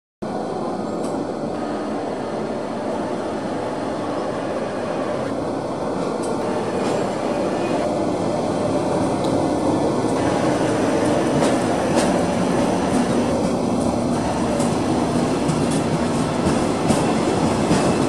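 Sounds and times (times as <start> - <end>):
train cars rolling past: 0.3 - 18.0.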